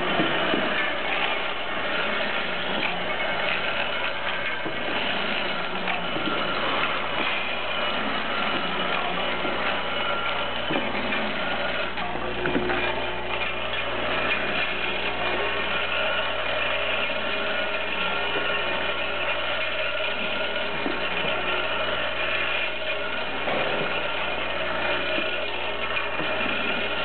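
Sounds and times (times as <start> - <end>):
constant hum: 0.0 - 27.0
feeder machine running: 0.0 - 27.0.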